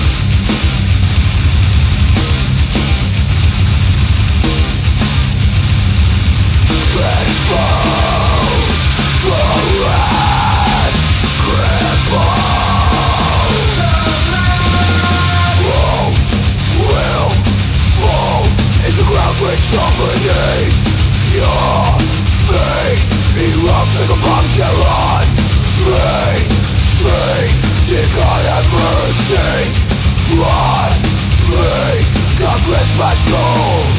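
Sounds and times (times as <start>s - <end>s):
heavy metal band playing: 0.0s - 33.9s
harsh shouted vocals: 6.7s - 33.9s.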